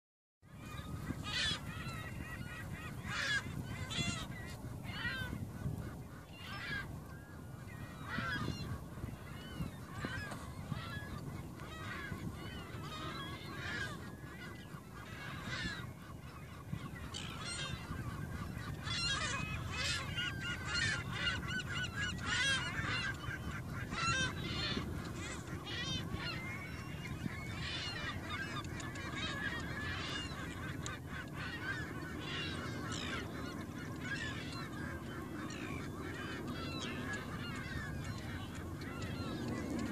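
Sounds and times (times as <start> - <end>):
waterbird colony calling: 0.5 - 39.9.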